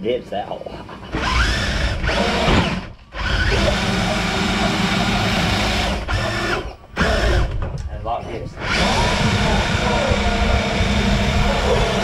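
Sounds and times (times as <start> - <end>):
electric motor and drivetrain whining: 1.1 - 7.9, 8.5 - 12.0.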